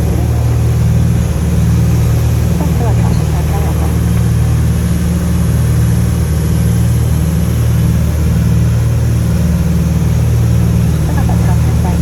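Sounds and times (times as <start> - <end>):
propeller plane cabin drone: 0.0 - 12.0.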